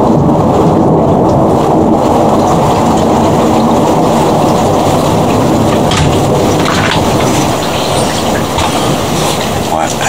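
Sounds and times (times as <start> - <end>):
thunderstorm rumbling: 0.0 - 10.0.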